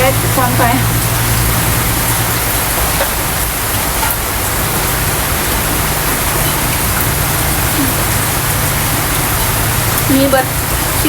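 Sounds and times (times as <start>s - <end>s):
rain: 0.0s - 11.0s
wind: 0.0s - 11.0s.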